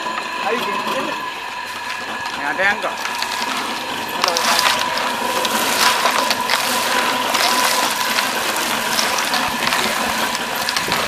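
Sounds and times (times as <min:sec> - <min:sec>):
concrete tumbling in mixer drum: 0:00.0 - 0:11.0
electric motor whine: 0:00.0 - 0:11.0.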